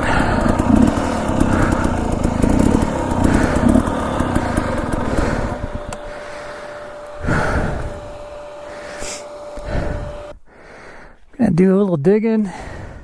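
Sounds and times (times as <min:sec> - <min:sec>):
faint steady whine: 0:00.0 - 0:10.6
dirt bike engine running: 0:00.0 - 0:11.1.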